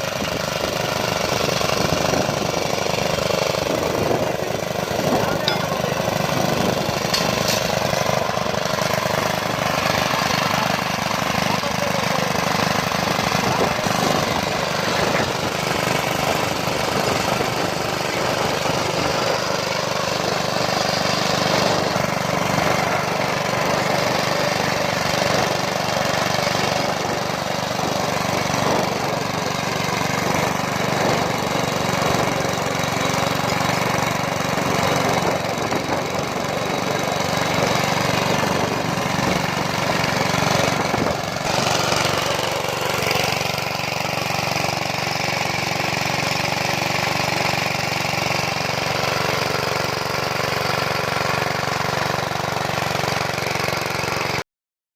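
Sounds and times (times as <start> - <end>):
diesel locomotive engine running: 0.0 - 54.4.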